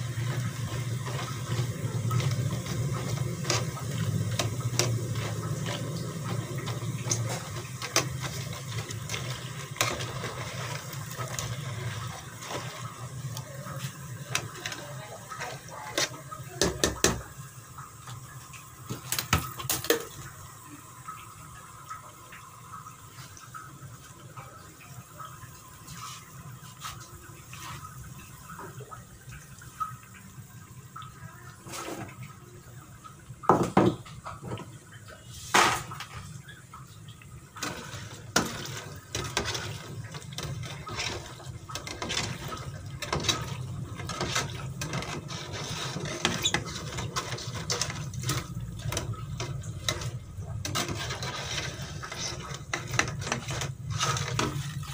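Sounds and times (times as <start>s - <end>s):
dough sizzling in hot oil: 0.0s - 54.9s.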